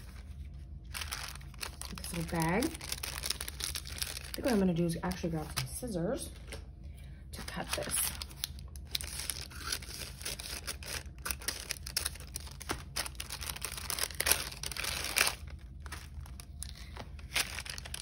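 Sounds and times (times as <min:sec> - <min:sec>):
paper bag crinkling: 0:00.0 - 0:05.6, 0:07.4 - 0:18.0.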